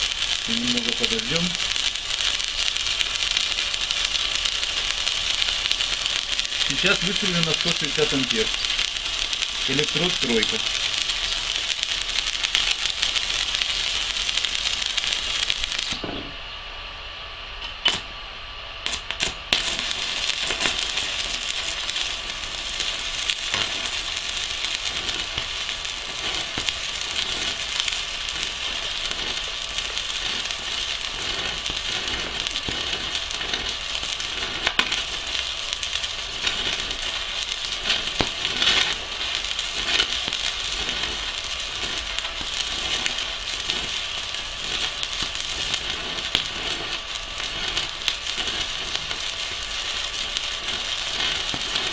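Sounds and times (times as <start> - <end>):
welding arc crackling: 0.0 - 16.4, 17.5 - 51.9.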